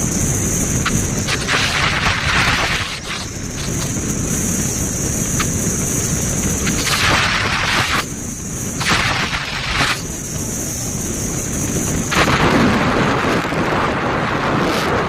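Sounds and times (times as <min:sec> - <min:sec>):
stormy wind buffeting microphone: 0:00.0 - 0:15.0.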